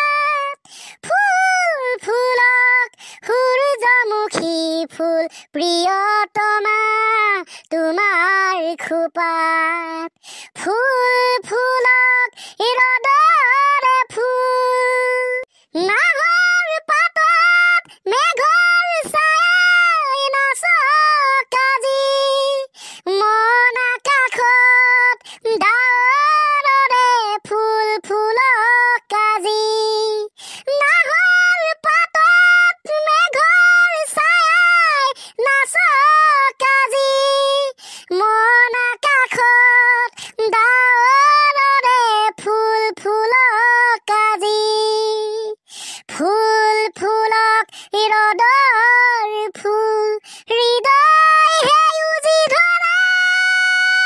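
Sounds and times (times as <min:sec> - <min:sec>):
child-like voice singing: 0:00.0 - 0:54.0.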